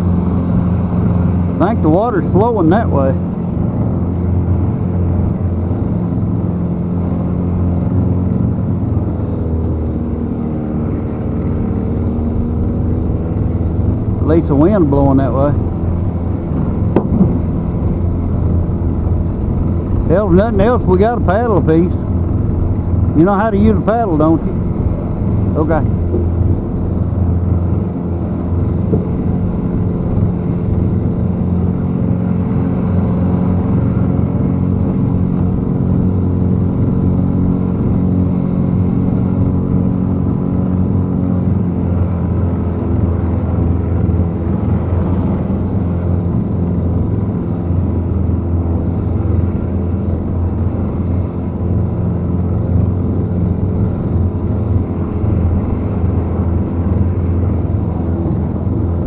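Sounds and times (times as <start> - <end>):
small boat motor droning: 0.0 - 59.0.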